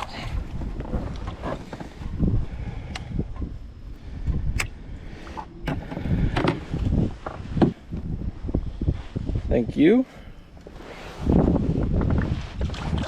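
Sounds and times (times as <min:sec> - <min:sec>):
low rumbling handling noise: 0:00.0 - 0:13.0.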